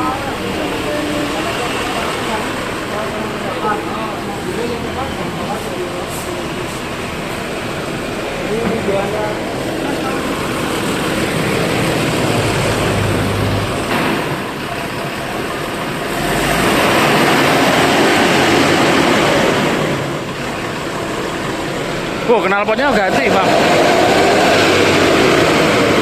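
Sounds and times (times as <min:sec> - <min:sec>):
bus engine with rushing exhaust: 0:00.0 - 0:26.0.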